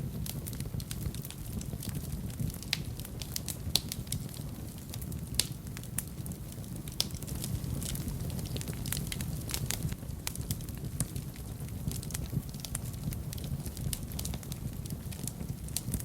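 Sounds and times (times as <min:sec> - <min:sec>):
fire crackling and popping: 0:00.0 - 0:16.0
fire flame rumble: 0:00.0 - 0:16.0.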